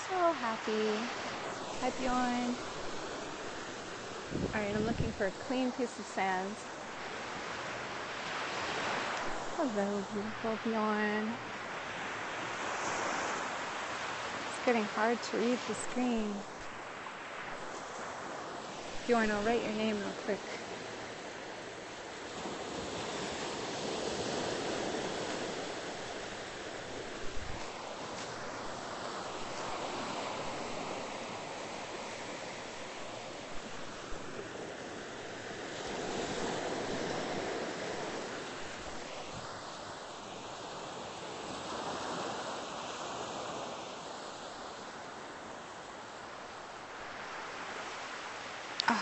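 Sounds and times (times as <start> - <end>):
ocean surf breaking: 0.0 - 49.0.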